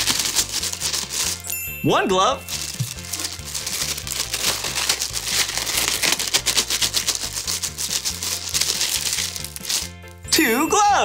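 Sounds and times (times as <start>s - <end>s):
glove crinkling: 0.0s - 10.8s
background music: 0.0s - 11.0s.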